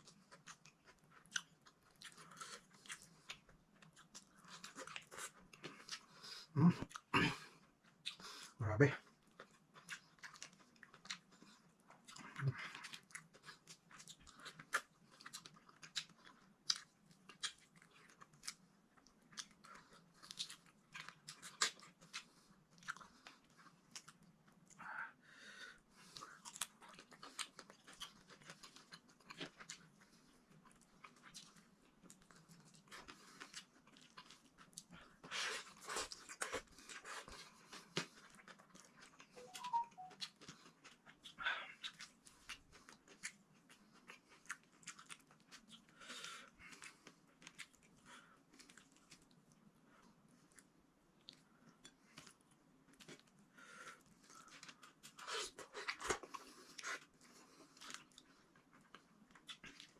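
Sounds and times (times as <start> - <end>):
person chewing and crunching: 0.0 - 24.9, 25.8 - 59.9.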